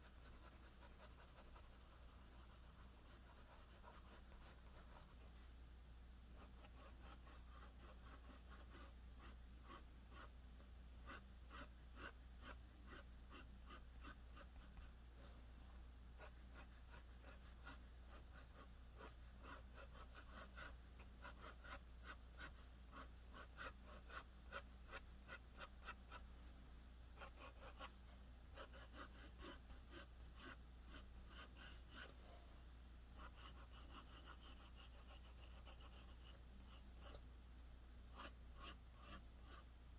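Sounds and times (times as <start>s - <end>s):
pencil scratching on paper: 0.0s - 5.4s, 6.4s - 10.3s, 11.0s - 14.9s, 16.2s - 26.2s, 27.2s - 32.2s, 33.2s - 37.2s, 38.1s - 39.7s.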